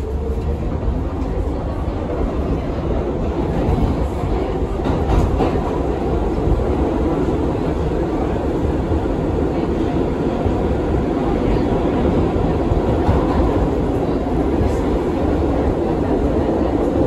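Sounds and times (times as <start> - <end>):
subway train wheel rumble: 0.0 - 17.0.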